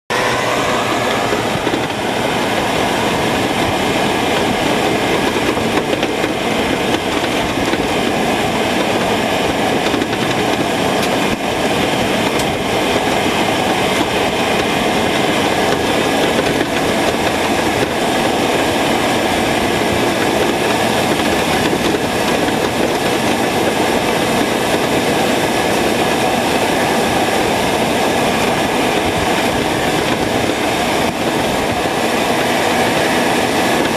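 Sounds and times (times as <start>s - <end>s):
truck engine: 0.0s - 33.9s
road rumble: 0.1s - 33.9s
wind rush: 0.1s - 33.9s.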